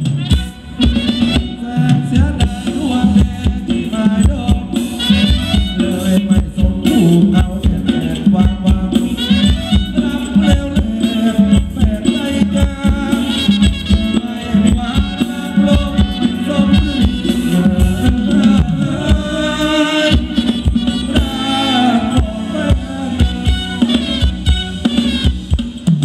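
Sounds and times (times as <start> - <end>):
live band playing dance music: 0.0 - 26.0
steady drum beat: 0.0 - 26.0.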